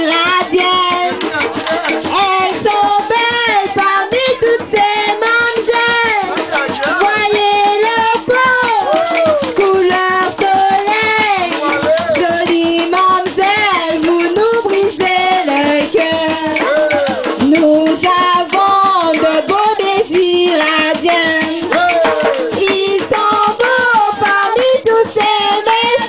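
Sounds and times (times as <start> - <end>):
group singing a folk song: 0.0 - 26.0
shaker rattling: 0.0 - 26.0.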